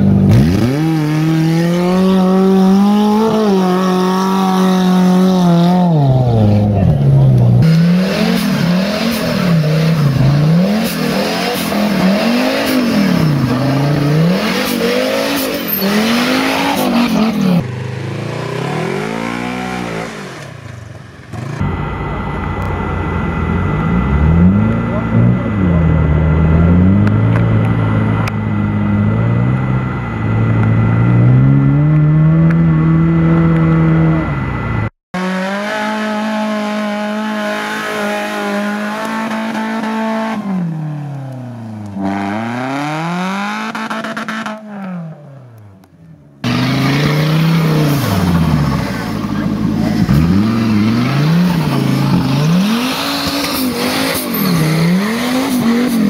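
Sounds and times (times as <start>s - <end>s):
off-road vehicle engines revving: 0.0s - 56.0s.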